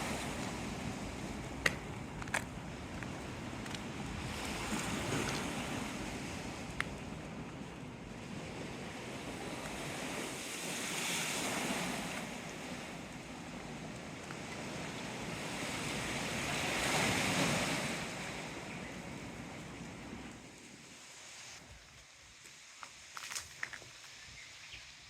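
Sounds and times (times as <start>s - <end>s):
strong wind: 0.0s - 20.8s
waves washing on shore: 0.0s - 21.7s.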